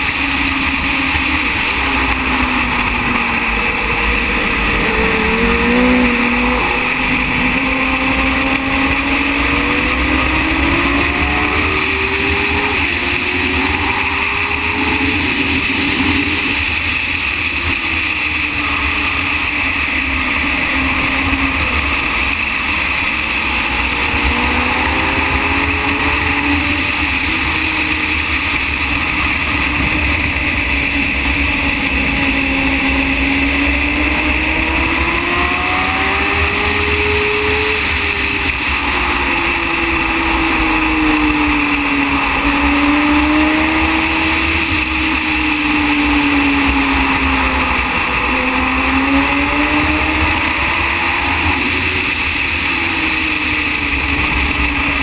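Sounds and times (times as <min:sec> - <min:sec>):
racing motorcycle engine: 0:00.0 - 0:55.0
wind rush on microphone: 0:00.0 - 0:55.0.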